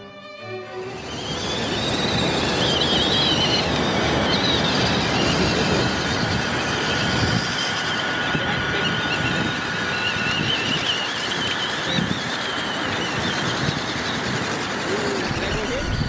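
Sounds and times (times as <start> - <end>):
toy truck motor whining: 0.8 - 16.0.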